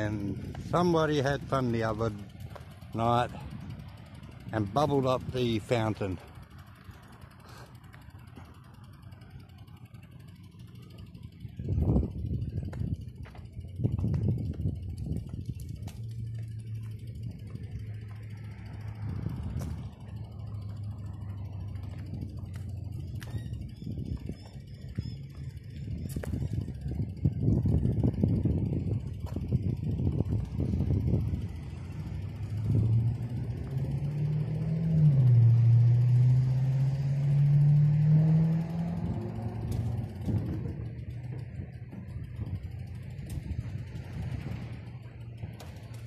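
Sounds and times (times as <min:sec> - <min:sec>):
vehicle engine accelerating: 0:00.0 - 0:46.0.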